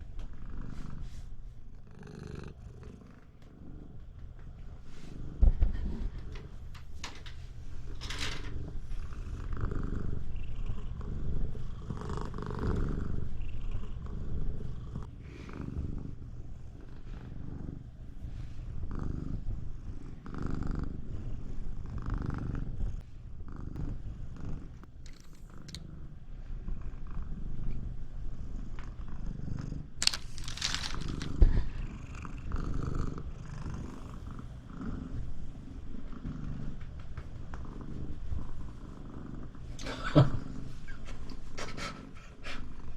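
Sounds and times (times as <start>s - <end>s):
cat purring loudly: 0.0s - 41.0s.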